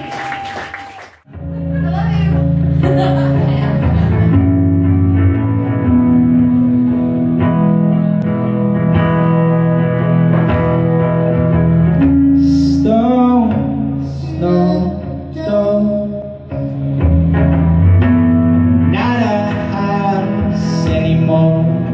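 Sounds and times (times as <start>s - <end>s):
electric guitar chords: 1.3s - 21.9s.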